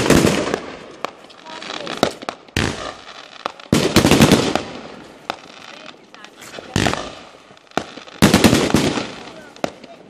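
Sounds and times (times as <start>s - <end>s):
fireworks bangs with crackling tails: 0.0s - 10.0s.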